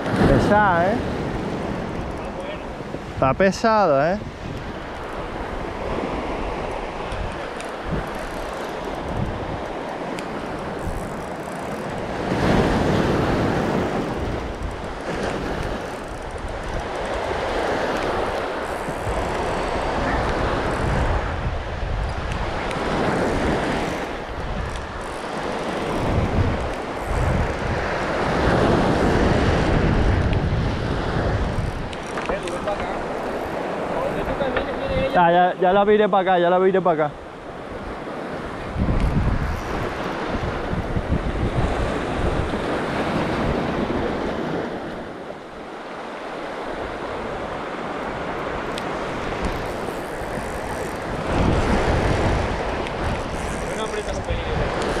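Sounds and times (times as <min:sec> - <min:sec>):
wind buffeting microphone: 0:00.0 - 0:36.2, 0:37.0 - 0:55.0
surf on pebble beach: 0:00.0 - 0:55.0.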